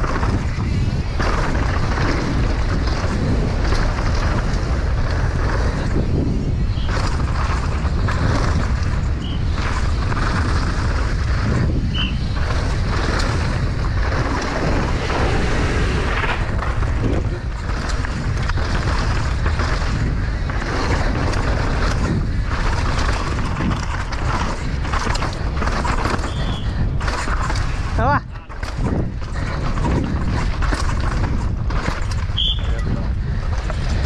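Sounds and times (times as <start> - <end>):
bike rattling and knocking: 0.0 - 34.0
tyres crunching on dirt: 0.0 - 34.0
wind buffeting microphone: 0.0 - 34.0.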